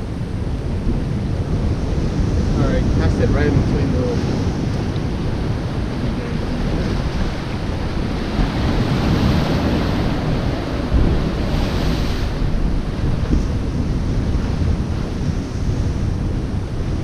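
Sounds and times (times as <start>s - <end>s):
surf washing on rocky shore: 0.0s - 17.0s
wind rumbling on microphone: 0.0s - 17.0s.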